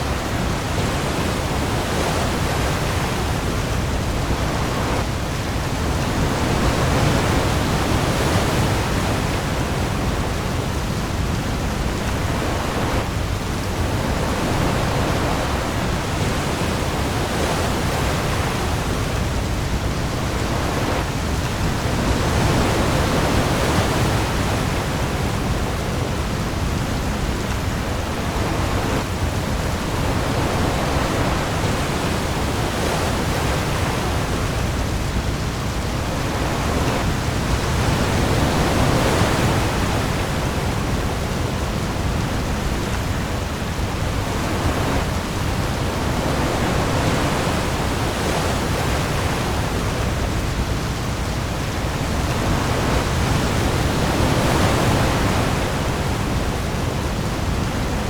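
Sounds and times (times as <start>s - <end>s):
heavy rain on the sea: 0.0s - 58.0s
sea waves: 0.0s - 58.0s.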